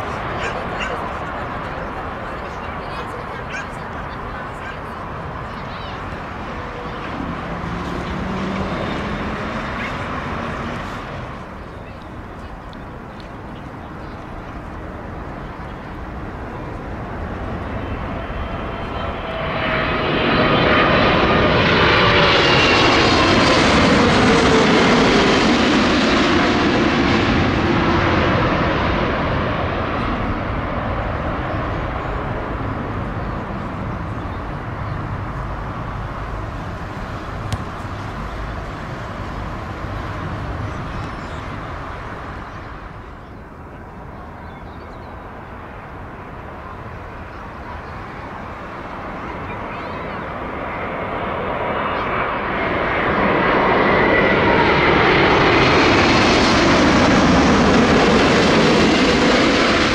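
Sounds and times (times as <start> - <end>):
approaching airliner engines: 0.0 - 59.9
jet engine rumble: 0.0 - 59.9
jet engine whine: 0.0 - 59.9.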